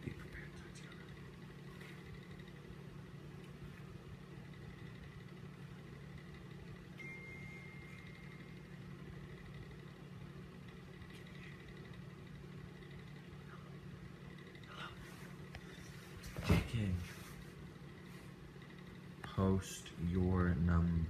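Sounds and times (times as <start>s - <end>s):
faint high whine: 0.0s - 21.0s
low background hum: 0.0s - 21.0s.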